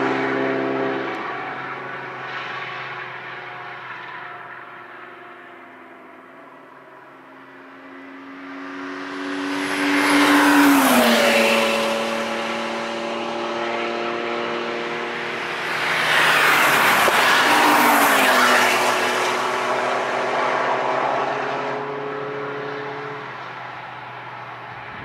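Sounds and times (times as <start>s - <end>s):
race cars passing at speed: 0.0s - 25.0s.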